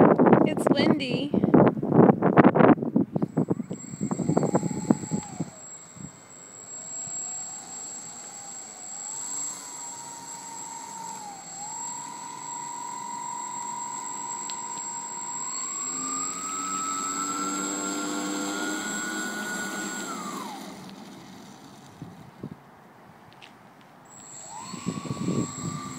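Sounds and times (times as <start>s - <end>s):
model airplane motor whining: 3.1s - 22.4s, 24.1s - 25.9s.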